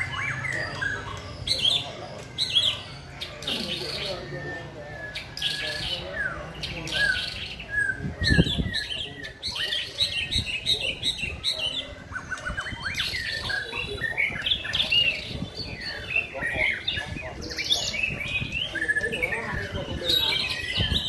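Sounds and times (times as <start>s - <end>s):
birds singing whistles and chirps: 0.0s - 21.0s.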